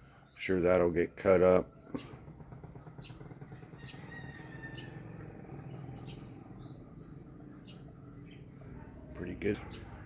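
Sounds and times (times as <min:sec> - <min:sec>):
low steady rumble: 0:01.7 - 0:10.0.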